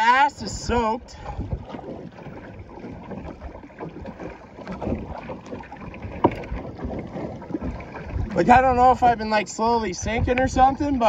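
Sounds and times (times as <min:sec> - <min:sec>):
water slapping against kayak hull: 0:00.0 - 0:11.0
wind on microphone: 0:00.0 - 0:11.0.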